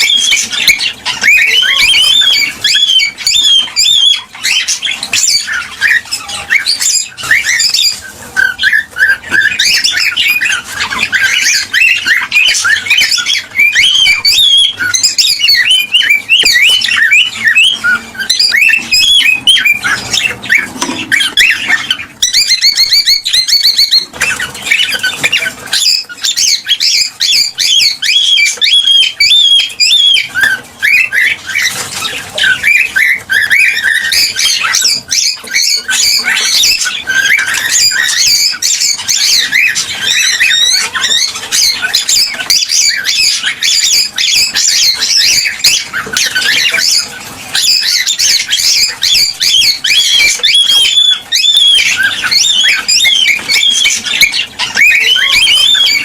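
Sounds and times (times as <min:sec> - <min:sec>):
cockatiels chirping and whistling: 0:00.0 - 0:56.0
fast bird trill: 0:00.0 - 0:56.0.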